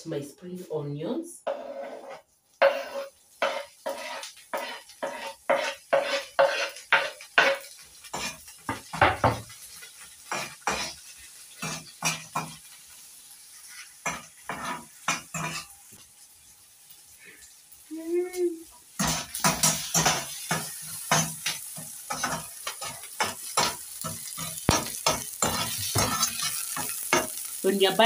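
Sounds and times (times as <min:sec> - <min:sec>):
faint oil sizzle: 0:00.0 - 0:28.0
spoon scraping in frying pan: 0:01.4 - 0:16.0, 0:18.9 - 0:27.6.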